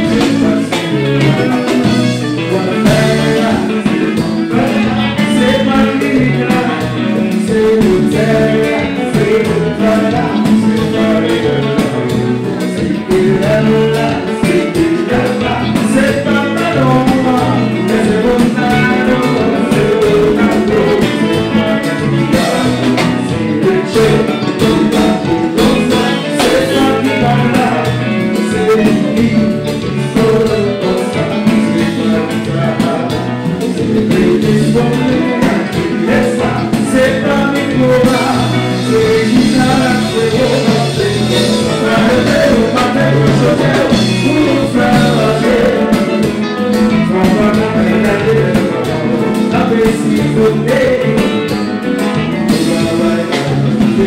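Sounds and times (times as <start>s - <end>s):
electric guitar: 0.0s - 54.0s
live band playing: 0.0s - 54.0s
men singing into microphones: 0.0s - 54.0s.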